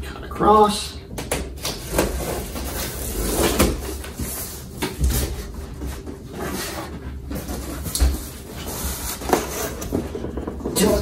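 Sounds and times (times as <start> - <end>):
cardboard scraping and rustling: 1.8 - 11.0.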